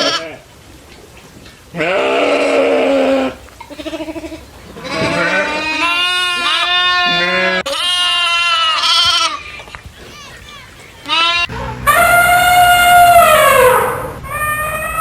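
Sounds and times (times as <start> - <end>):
goats bleating: 0.0 - 0.5, 1.7 - 15.0.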